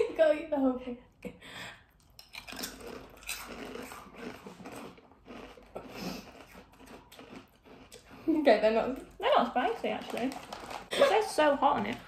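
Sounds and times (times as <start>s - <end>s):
people chewing crunchy crisps: 2.0s - 12.0s.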